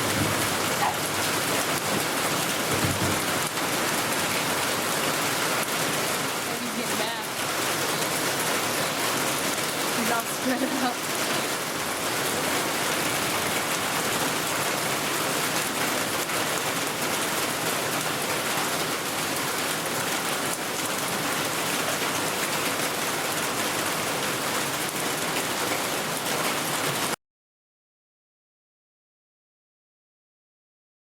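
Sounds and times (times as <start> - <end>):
steady rain falling: 0.0 - 27.2.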